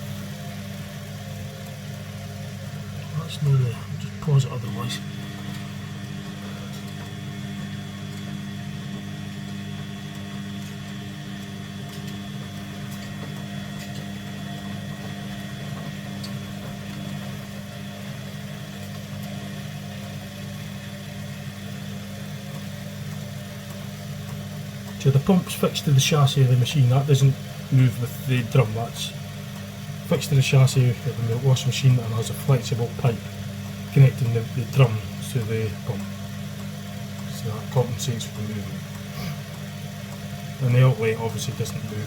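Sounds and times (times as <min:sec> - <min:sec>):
washing machine humming: 0:00.0 - 0:42.0.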